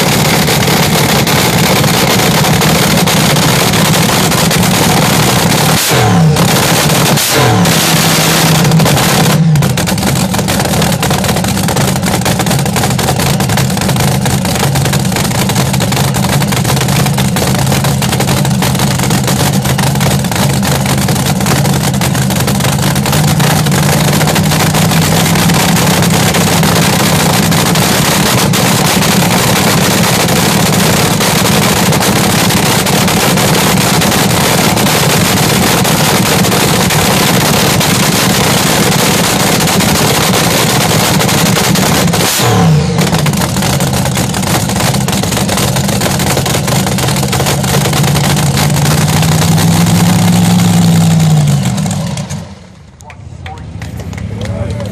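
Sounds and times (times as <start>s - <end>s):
loud dragster engine idling: 0.0s - 54.9s.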